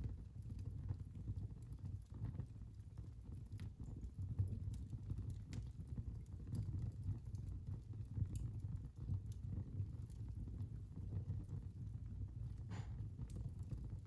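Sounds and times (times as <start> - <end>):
fire rumbling: 0.0 - 14.0.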